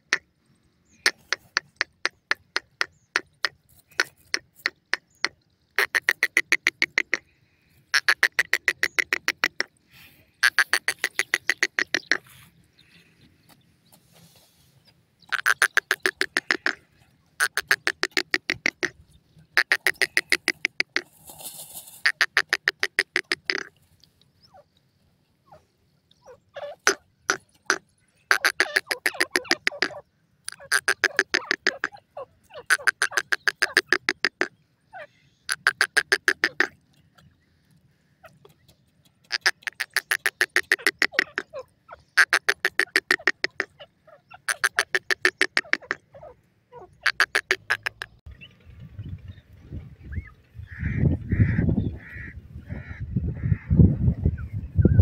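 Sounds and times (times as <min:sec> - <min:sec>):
bird calling with harsh clicks: 0:00.0 - 0:09.8, 0:10.4 - 0:14.0, 0:15.2 - 0:16.8, 0:17.4 - 0:21.1, 0:22.0 - 0:24.9, 0:25.5 - 0:48.6.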